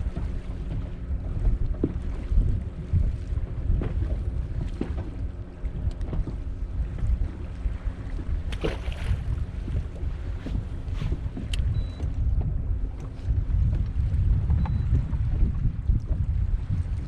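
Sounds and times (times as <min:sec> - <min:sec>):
steady low hum: 0:00.0 - 0:17.0
wind buffeting microphone: 0:00.0 - 0:17.0.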